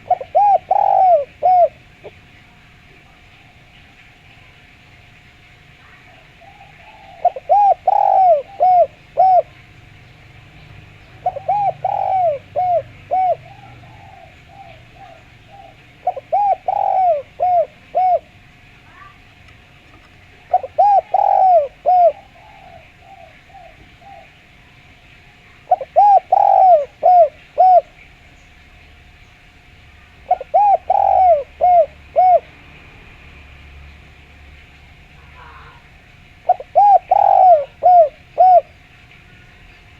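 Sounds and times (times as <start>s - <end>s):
dove cooing: 0.0s - 3.8s, 5.8s - 28.2s, 30.0s - 33.0s, 35.0s - 39.2s.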